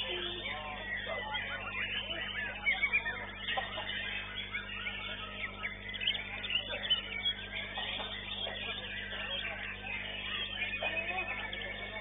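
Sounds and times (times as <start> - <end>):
bird singing whistled notes: 0.0 - 12.0
low electrical hum: 0.0 - 12.0.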